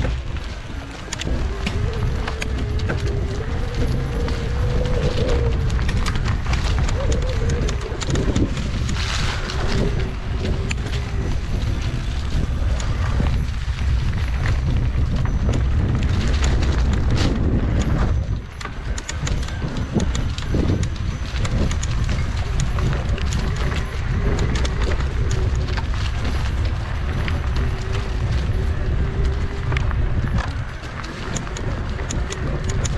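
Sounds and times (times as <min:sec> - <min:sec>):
bike rattling on dirt trail: 0:00.0 - 0:32.9
wind on microphone: 0:00.0 - 0:32.9.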